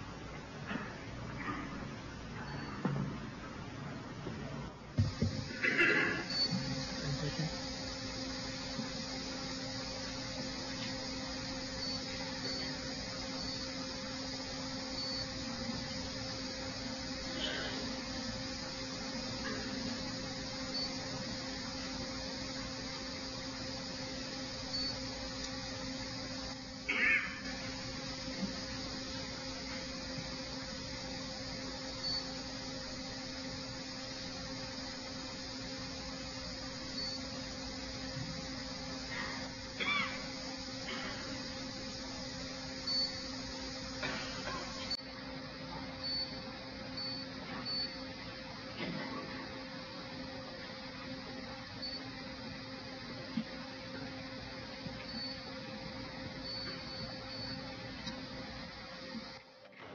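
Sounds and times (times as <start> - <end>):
low electrical hum: 0.0 - 59.9
steady hiss: 4.9 - 59.9.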